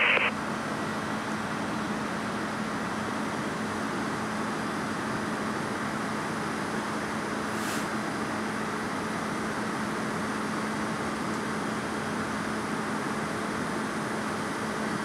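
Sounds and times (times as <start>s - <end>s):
fire truck engines droning: 0.0s - 15.0s.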